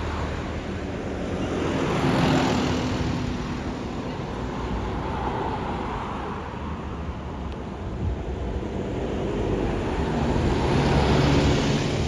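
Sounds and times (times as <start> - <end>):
road vehicle passing by: 0.0 - 7.1, 8.4 - 12.0.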